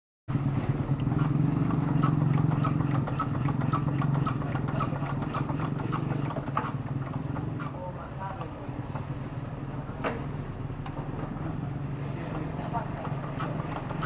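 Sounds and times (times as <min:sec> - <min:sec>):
diesel tractor engine running: 0:00.3 - 0:14.0.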